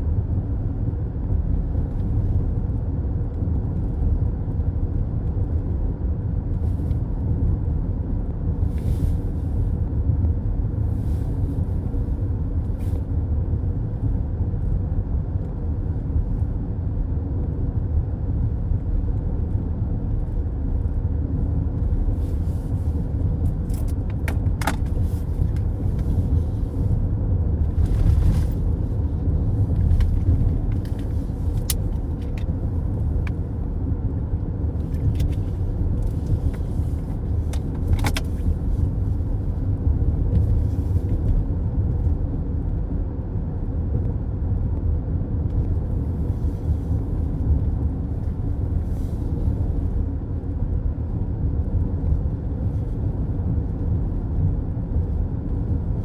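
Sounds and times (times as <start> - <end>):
tyres rumbling on road: 0.2 - 56.0.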